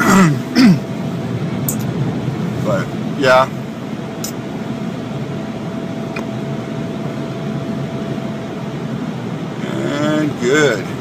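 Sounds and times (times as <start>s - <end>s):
car cabin road noise: 0.0s - 11.0s
faint steady whine: 0.0s - 11.0s.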